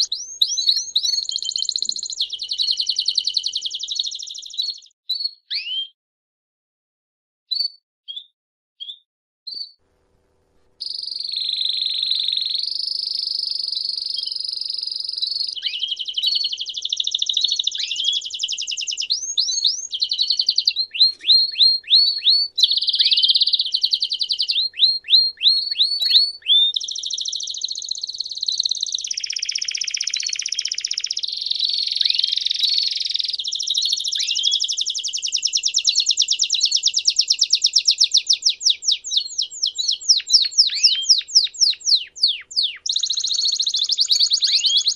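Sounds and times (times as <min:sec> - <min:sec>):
canary singing: 0:00.0 - 0:06.0, 0:10.8 - 0:44.9.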